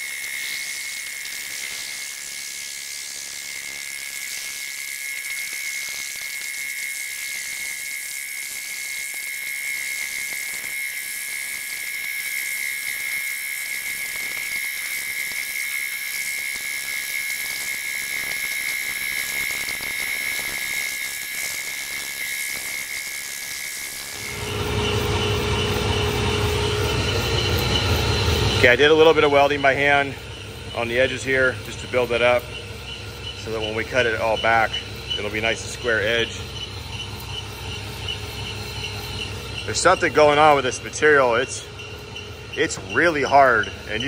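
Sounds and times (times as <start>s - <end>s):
boring machine whining: 0.0s - 44.0s.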